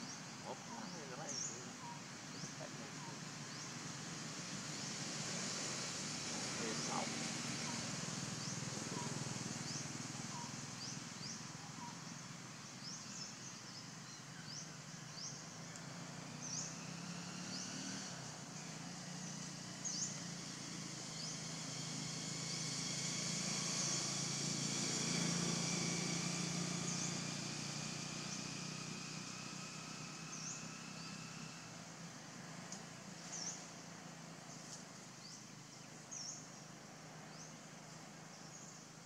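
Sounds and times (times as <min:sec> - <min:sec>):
low motor hum: 0:00.0 - 0:39.0.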